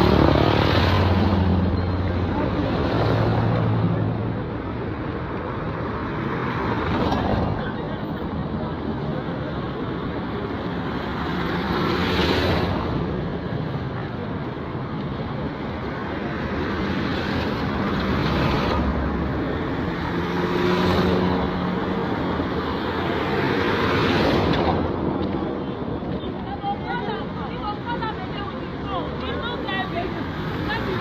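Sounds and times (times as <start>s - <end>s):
traffic hum: 0.0s - 31.0s
vehicles passing: 0.0s - 31.0s.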